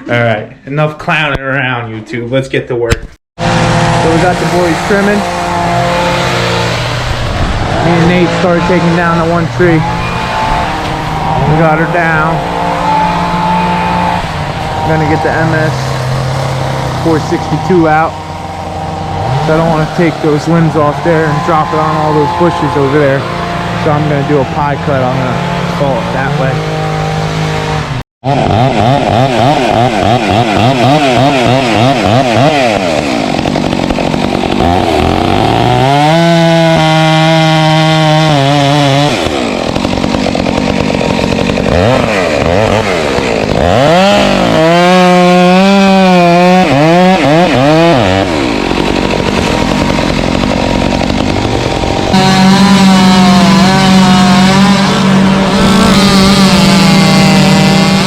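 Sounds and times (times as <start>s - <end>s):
chainsaw engine revving: 3.4s - 58.0s.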